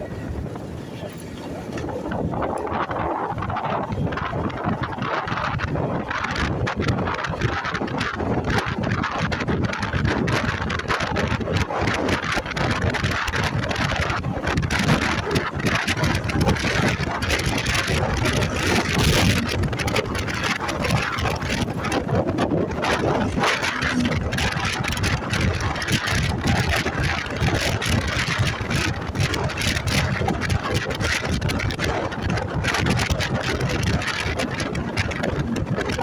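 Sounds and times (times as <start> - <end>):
motorcycle engine running: 0.0 - 36.0
road noise: 0.0 - 36.0
wind buffeting microphone: 0.0 - 36.0.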